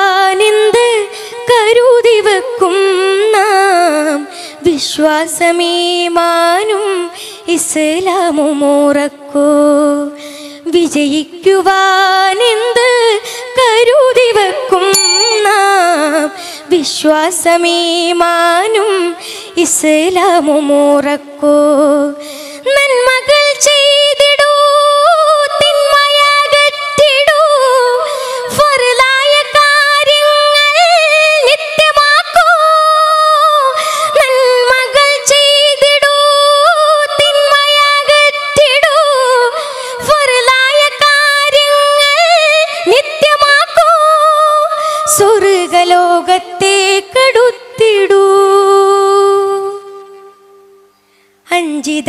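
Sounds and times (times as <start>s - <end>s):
high voice singing devotional song: 0.0s - 52.0s.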